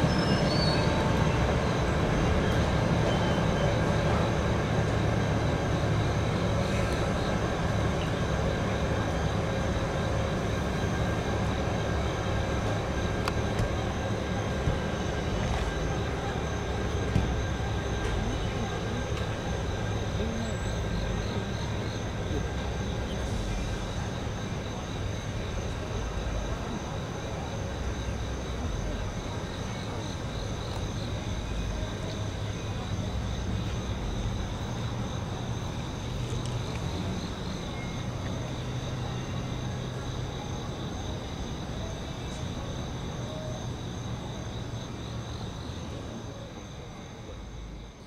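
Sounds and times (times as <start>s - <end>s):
crickets chirring: 0.0s - 48.0s
locomotive idling low rumble: 0.0s - 48.0s.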